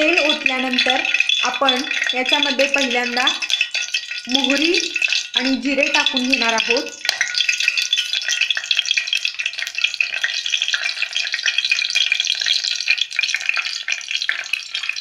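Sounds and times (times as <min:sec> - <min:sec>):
seeds sizzling in hot oil: 0:00.0 - 0:15.0.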